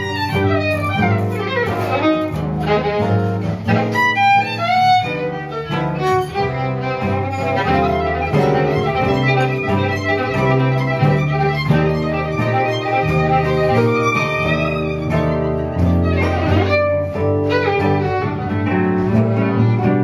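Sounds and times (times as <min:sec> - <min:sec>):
jazz band playing: 0:00.0 - 0:20.0
violin melody: 0:00.0 - 0:20.0
walking bass: 0:00.0 - 0:20.0.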